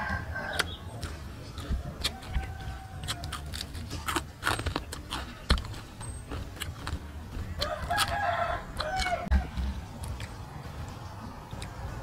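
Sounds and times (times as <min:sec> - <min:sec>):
crunching and chewing crispy food: 0:00.0 - 0:12.0.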